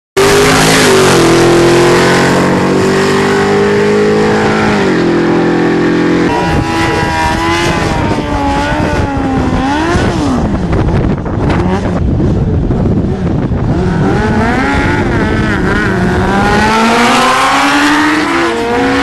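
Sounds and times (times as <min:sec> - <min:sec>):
drag car engine at full throttle: 0:00.2 - 0:19.0
motorcycle engine revving: 0:00.2 - 0:19.0.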